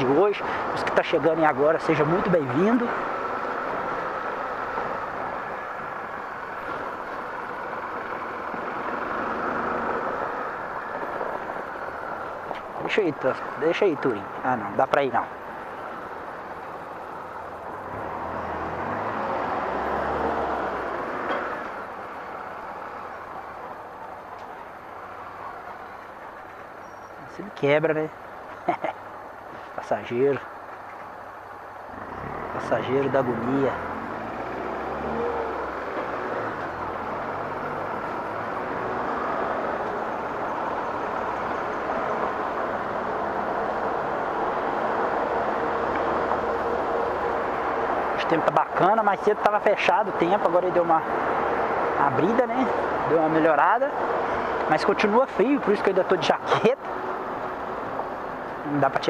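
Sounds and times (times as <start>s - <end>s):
bus diesel engine: 0.0s - 59.0s
wind and road noise: 0.0s - 59.0s.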